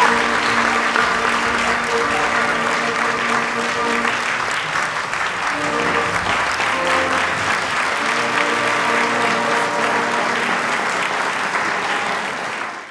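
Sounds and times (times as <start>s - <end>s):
orchestra playing sustained chords: 0.0s - 11.2s
audience applauding: 0.0s - 12.9s.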